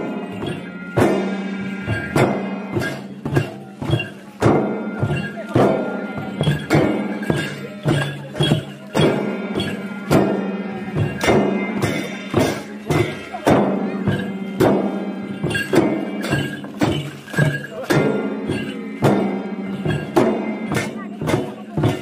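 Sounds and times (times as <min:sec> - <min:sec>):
barrel drums beaten by hand: 0:00.0 - 0:22.0
hand cymbals clashing: 0:00.0 - 0:22.0.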